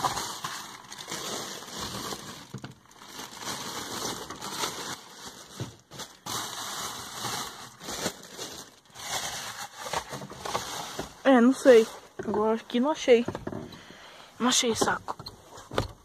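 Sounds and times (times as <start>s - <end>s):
plastic bags crinkling: 0.0s - 13.7s.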